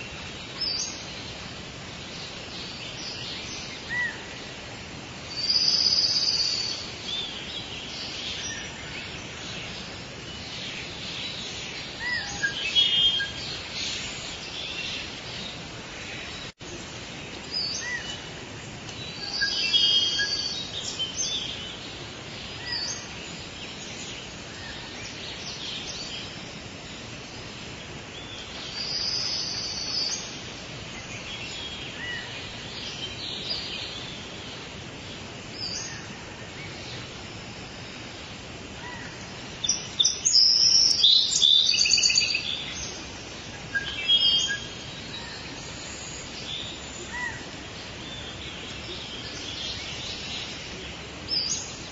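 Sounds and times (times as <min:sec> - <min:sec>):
forest birds chirping: 0:00.0 - 0:51.9
steady background hiss: 0:00.0 - 0:51.9.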